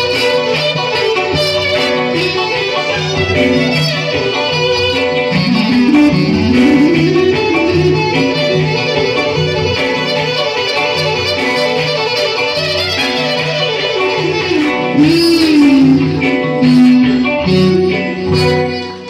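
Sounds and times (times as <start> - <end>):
live folk dance music: 0.0 - 19.0.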